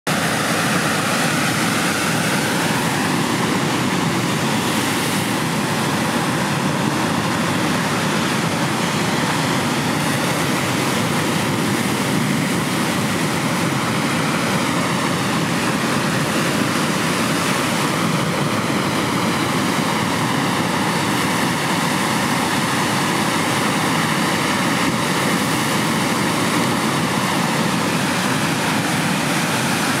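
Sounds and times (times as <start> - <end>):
waves breaking: 0.1 - 30.0.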